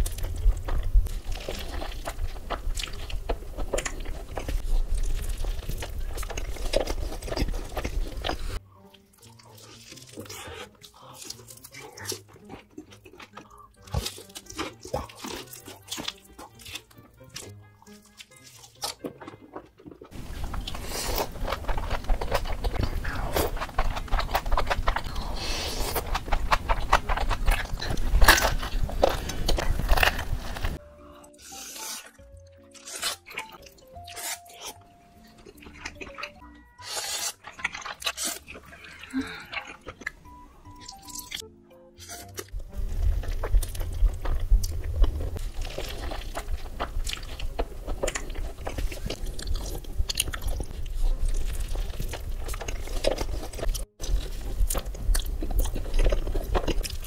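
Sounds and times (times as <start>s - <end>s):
crunchy chewing of fried chicken: 0.0s - 57.0s
soft background music: 0.0s - 57.0s.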